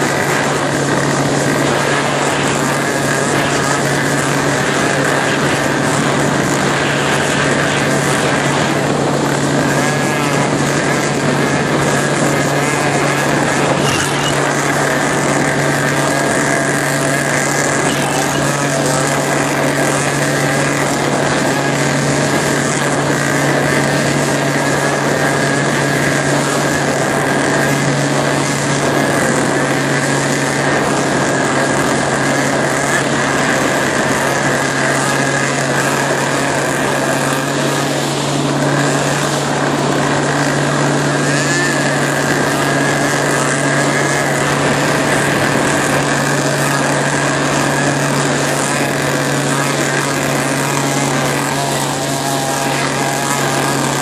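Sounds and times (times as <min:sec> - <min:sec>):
motorboat engine drone: 0:00.0 - 0:54.0
rushing water: 0:00.0 - 0:54.0
wind noise: 0:00.0 - 0:54.0.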